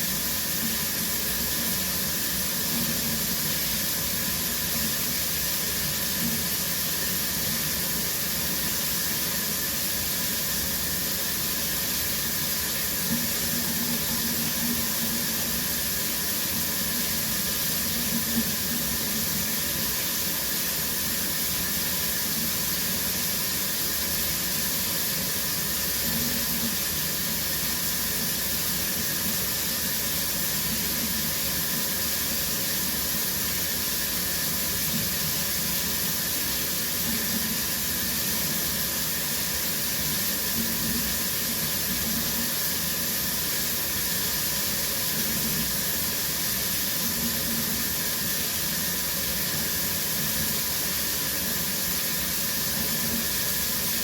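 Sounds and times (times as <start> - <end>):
shower spraying water: 0.0 - 54.0.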